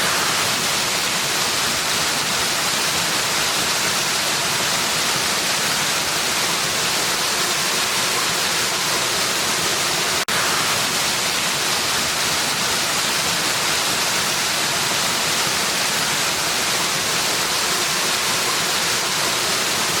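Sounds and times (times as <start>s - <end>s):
waterfall rushing hiss: 0.0s - 20.0s.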